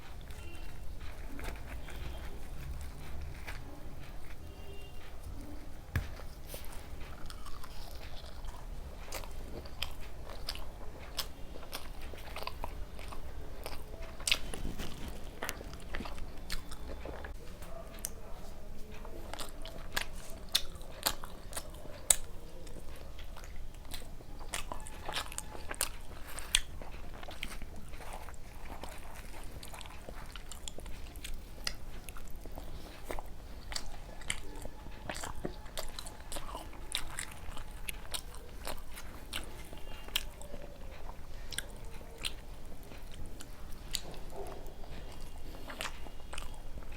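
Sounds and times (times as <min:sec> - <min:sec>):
person chewing: 0:00.0 - 0:46.9.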